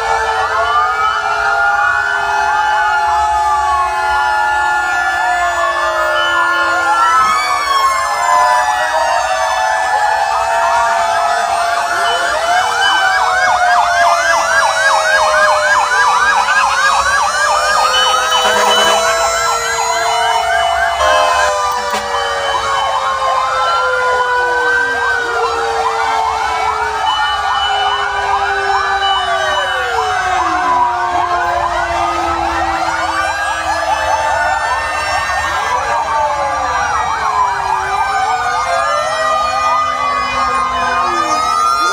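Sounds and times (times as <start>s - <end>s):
fast siren yelp: 0.0s - 41.9s
fire truck sirens wailing: 0.0s - 41.9s.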